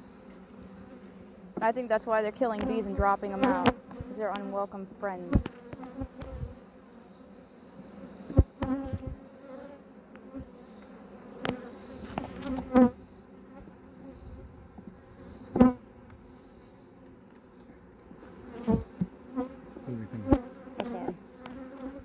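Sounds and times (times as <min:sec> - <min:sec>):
bees buzzing past microphone: 0:00.0 - 0:22.0
swarm of bees buzzing: 0:00.0 - 0:22.0.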